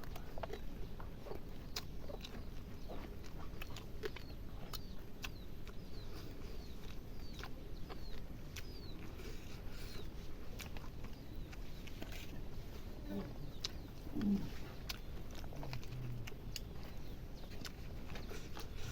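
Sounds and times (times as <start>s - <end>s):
wet chewing: 0.0s - 18.9s.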